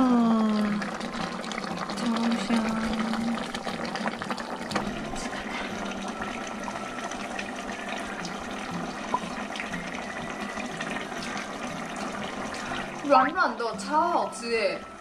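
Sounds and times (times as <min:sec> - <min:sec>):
sauce bubbling in a pot: 0:00.0 - 0:15.0.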